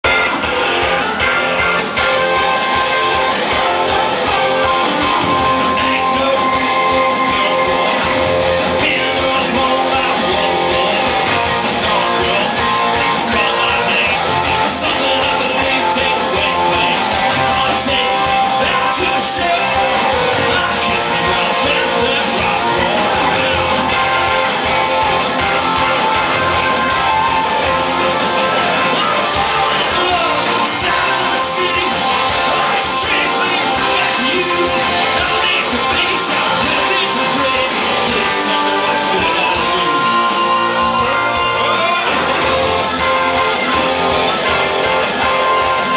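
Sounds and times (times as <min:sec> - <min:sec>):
bass: 0:00.0 - 0:45.9
drums: 0:00.0 - 0:45.9
guitars: 0:00.0 - 0:45.9
keyboard: 0:00.0 - 0:45.9.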